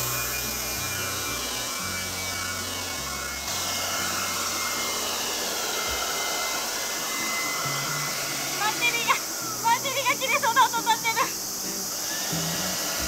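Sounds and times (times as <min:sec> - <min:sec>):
leaf blower running: 0:00.0 - 0:13.0.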